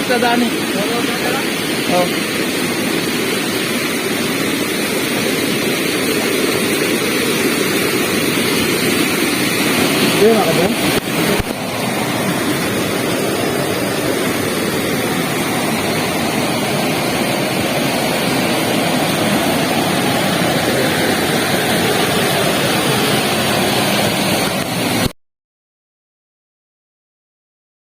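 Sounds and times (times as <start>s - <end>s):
waterfall rushing: 0.0s - 25.1s.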